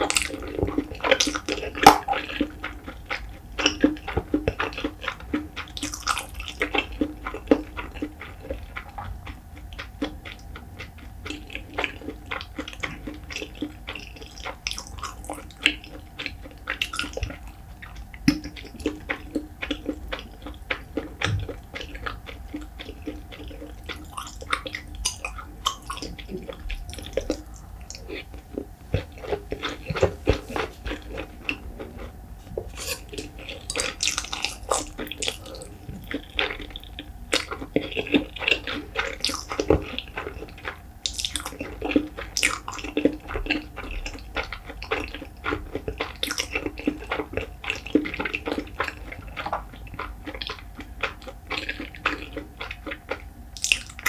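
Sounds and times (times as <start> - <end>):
close-miked wet chewing: 0.0 - 54.0.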